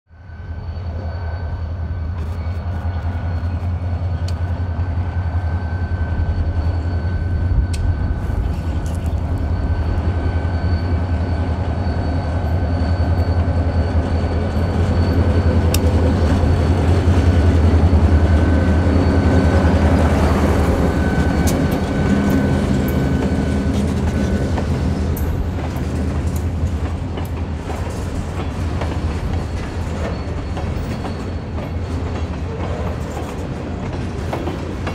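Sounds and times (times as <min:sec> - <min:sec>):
diesel locomotive engine drone: 0:00.1 - 0:34.9.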